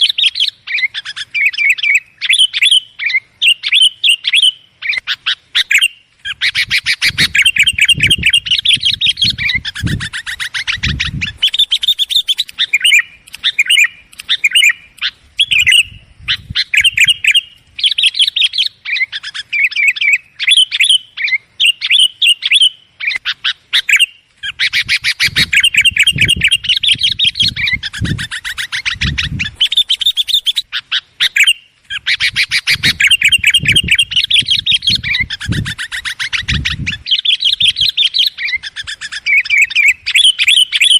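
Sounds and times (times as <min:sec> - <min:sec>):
bulbul chattering trills: 0:00.0 - 0:40.9.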